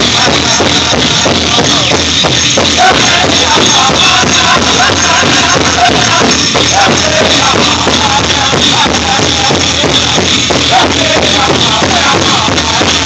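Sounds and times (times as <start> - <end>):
big drum beating: 0.0 - 13.0
group singing in high voices: 0.0 - 13.0.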